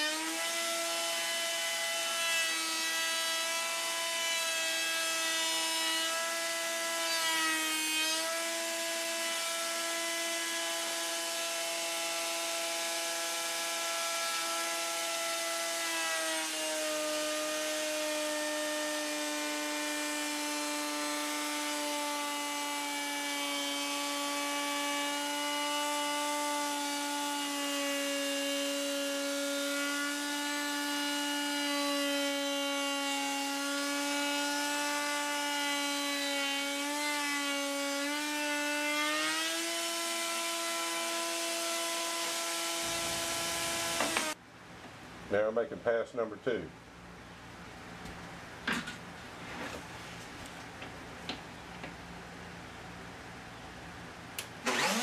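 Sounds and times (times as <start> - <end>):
router motor whining: 0.0 - 44.4, 54.4 - 55.0.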